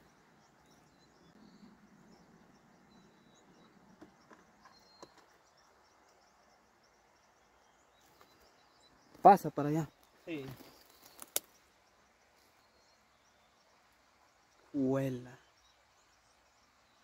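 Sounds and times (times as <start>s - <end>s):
high chirping of small animals: 0.0s - 17.0s.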